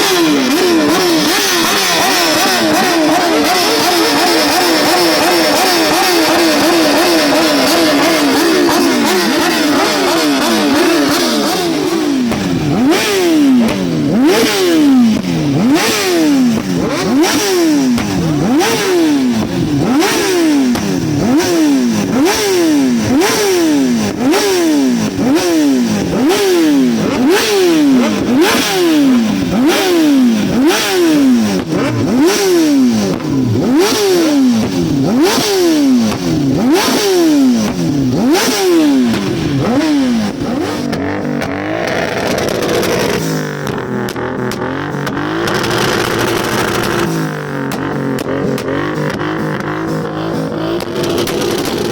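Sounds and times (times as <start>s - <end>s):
exhaust cracks: 0.0s - 51.9s
motorcycle engine revving: 0.0s - 51.9s.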